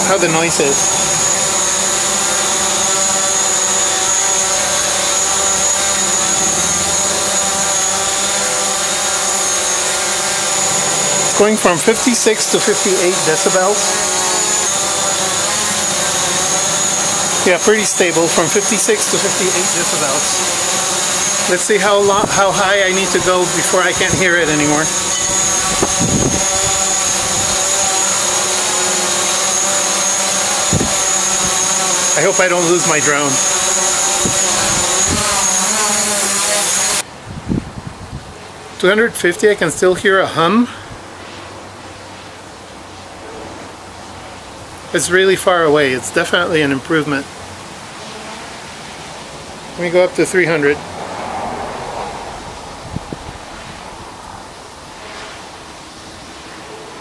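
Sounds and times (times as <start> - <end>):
quadcopter hovering buzz: 0.0 - 37.1, 39.2 - 57.0.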